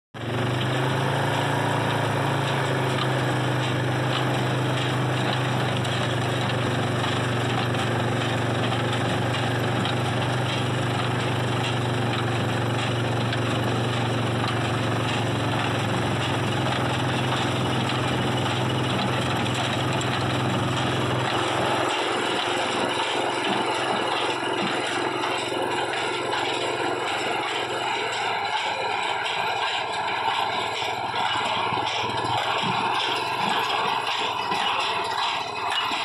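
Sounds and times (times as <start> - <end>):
atv engine: 0.2 - 36.0
baler mechanism rattling: 0.2 - 36.0
tractor engine running: 0.2 - 36.0.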